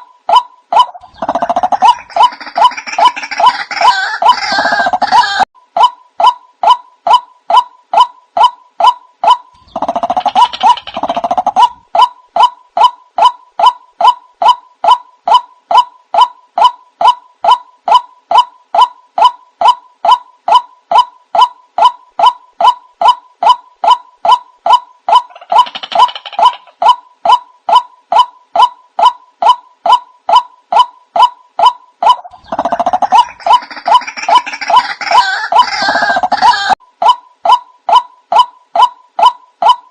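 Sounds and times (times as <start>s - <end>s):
harsh bird chattering: 0.0s - 5.4s, 6.2s - 39.9s
waterhen repeated calls: 0.0s - 39.9s.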